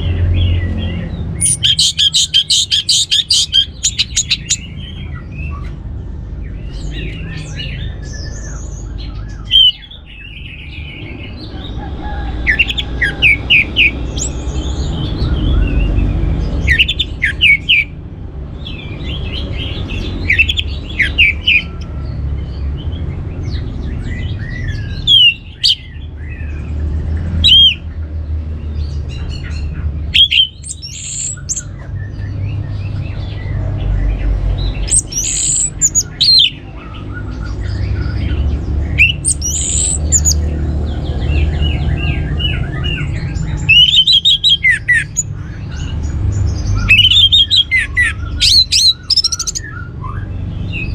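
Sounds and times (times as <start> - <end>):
thrush chirping and singing: 0.0 - 50.9.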